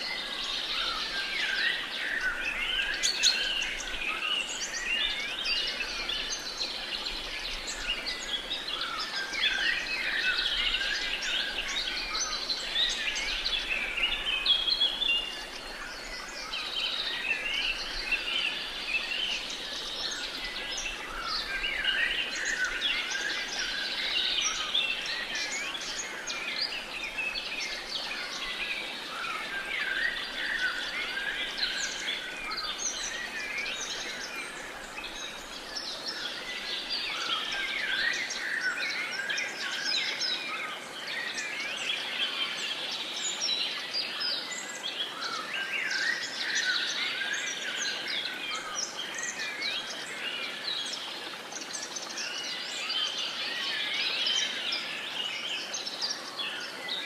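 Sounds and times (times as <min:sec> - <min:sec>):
birds singing and chirping: 0:00.0 - 0:57.0.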